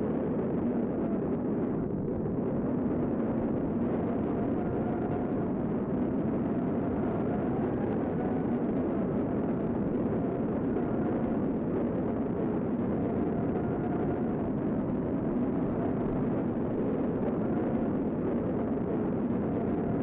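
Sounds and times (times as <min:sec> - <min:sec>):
tornado wind rumble: 0:00.0 - 0:20.0.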